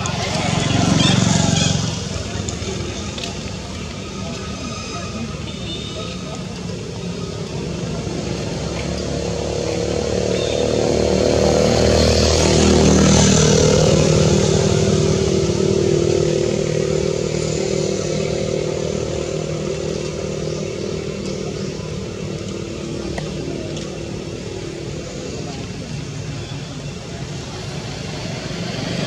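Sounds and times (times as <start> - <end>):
vehicle engine passing by: 0.0 - 5.4, 6.0 - 26.3.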